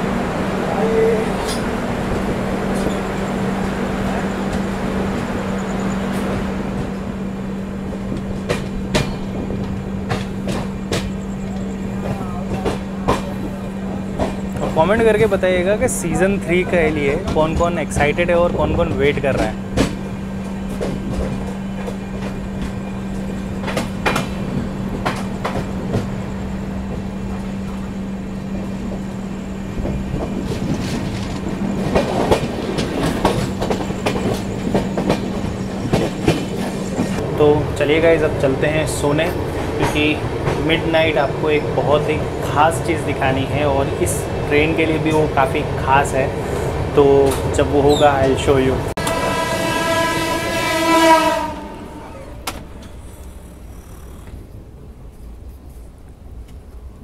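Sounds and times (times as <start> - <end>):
train rumbling at speed: 0.0 - 57.0
wheels clacking over rail joints: 0.8 - 54.5.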